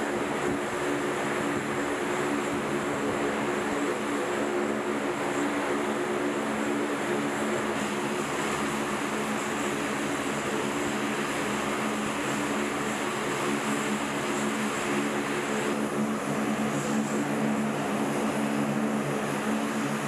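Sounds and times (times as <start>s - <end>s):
turboprop aircraft engines running: 0.0s - 20.0s.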